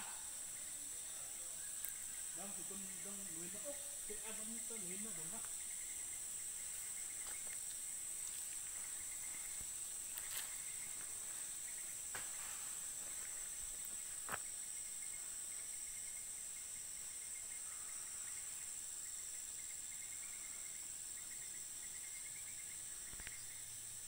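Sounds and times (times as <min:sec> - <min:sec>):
faint rapid chirping: 0:00.0 - 0:24.0
insects droning: 0:00.0 - 0:24.0.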